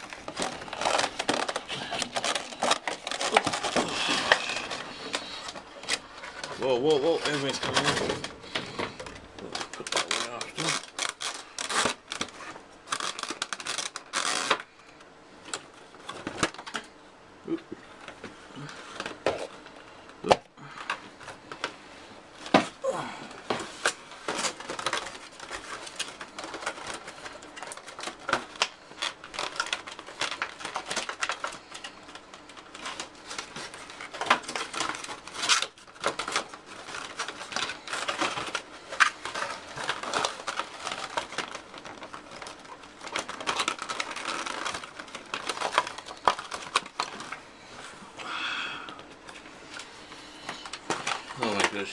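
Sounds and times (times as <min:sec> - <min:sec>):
packaging crinkling: 0:00.0 - 0:48.0, 0:48.9 - 0:51.9.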